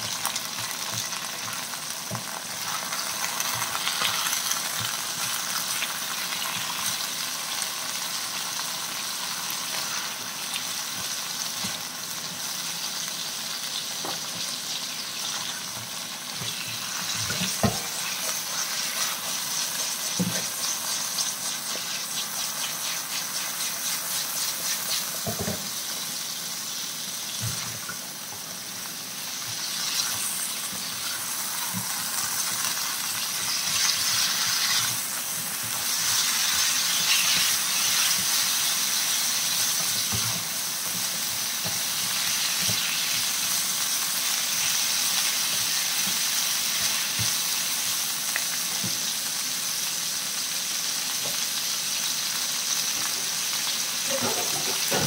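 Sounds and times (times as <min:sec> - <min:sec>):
chicken feet sizzling in hot oil: 0:00.0 - 0:55.0.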